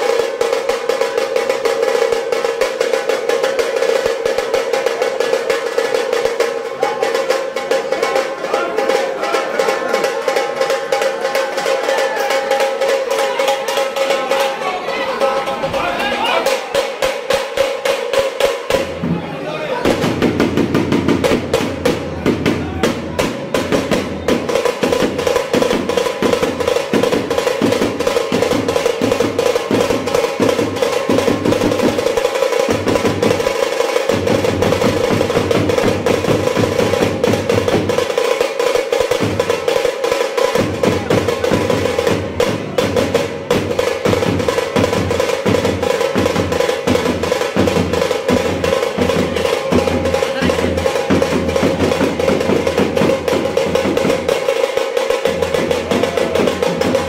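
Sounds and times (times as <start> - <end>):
deep drum beats: 0.0 - 57.0.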